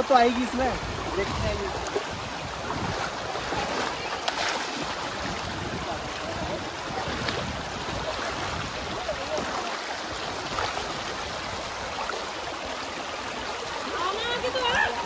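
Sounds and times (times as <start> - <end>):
people wading and splashing: 0.0 - 15.0
stream running over stones: 0.0 - 15.0.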